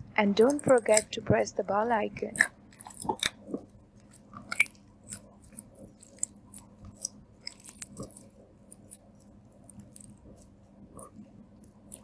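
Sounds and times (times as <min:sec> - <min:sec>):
slime squelching: 0:00.0 - 0:01.2, 0:02.1 - 0:12.0.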